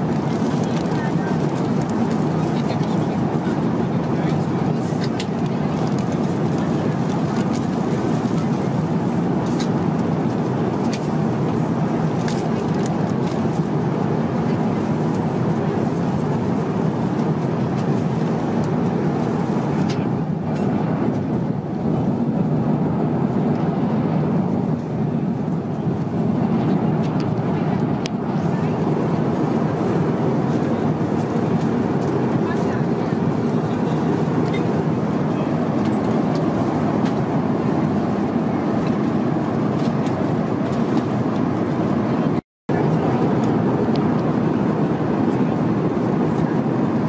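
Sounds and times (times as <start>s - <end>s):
airplane cabin noise: 0.0s - 47.0s.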